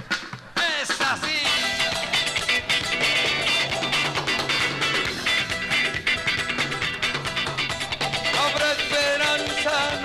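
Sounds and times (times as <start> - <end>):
live band music: 0.0 - 10.0
strummed guitars: 0.0 - 10.0.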